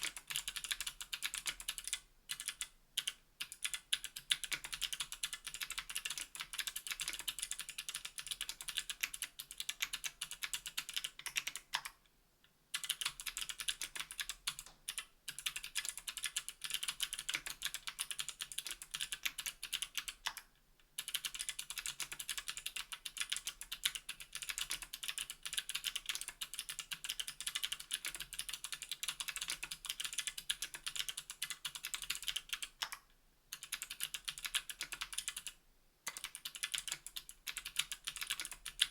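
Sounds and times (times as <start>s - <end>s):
fast keyboard typing clicks: 0.0s - 11.9s, 12.8s - 20.4s, 21.0s - 38.9s.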